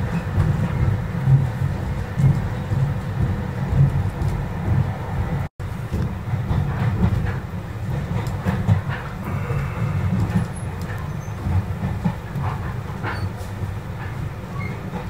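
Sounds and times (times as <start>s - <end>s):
train clicks and knocks: 0.0s - 15.0s
train wheels rumbling on rails: 0.0s - 15.0s.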